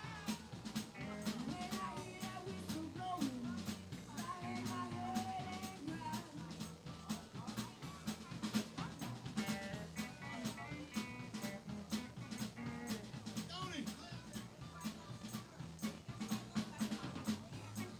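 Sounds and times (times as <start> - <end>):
drum kit beat: 0.0 - 17.9
live band playing: 0.0 - 17.9.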